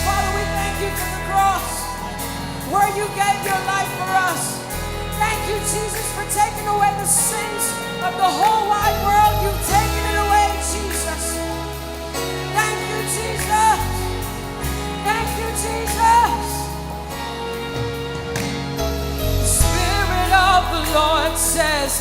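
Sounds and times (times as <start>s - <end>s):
person singing: 0.0s - 18.4s, 19.3s - 22.0s
bass and keyboard chords: 0.0s - 22.0s.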